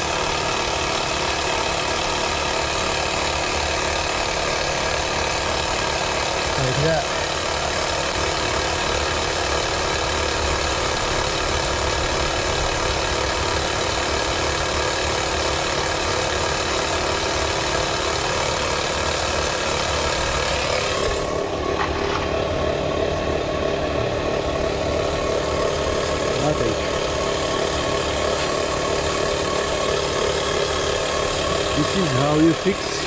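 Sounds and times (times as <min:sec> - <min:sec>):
air compressor running: 0:00.0 - 0:33.0.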